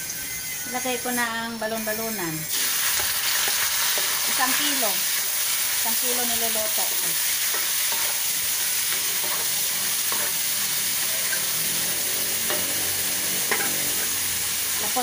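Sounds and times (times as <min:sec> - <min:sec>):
food sizzling in hot oil: 0:00.7 - 0:15.0.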